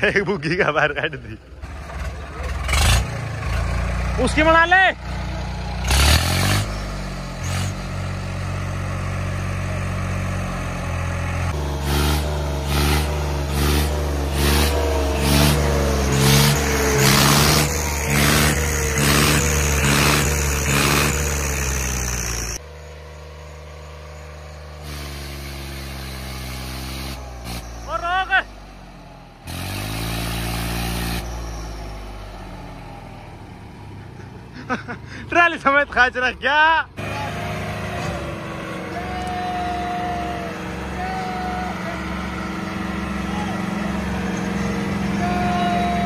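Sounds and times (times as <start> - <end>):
tractor diesel engine straining: 0.0 - 46.0.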